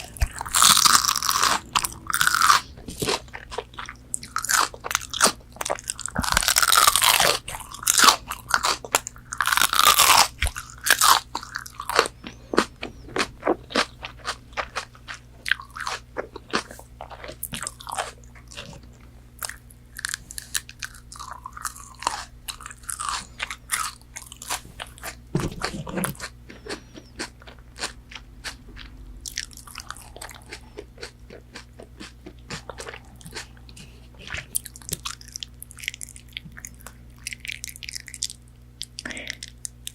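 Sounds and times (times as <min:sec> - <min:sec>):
crunchy bites into nuggets: 0:00.0 - 0:39.9
wet chewing: 0:00.0 - 0:39.9.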